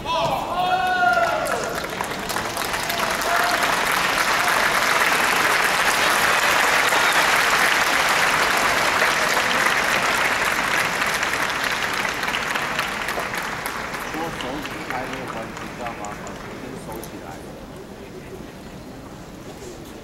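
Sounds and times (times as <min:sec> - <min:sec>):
crowd applauding: 0:00.9 - 0:17.4.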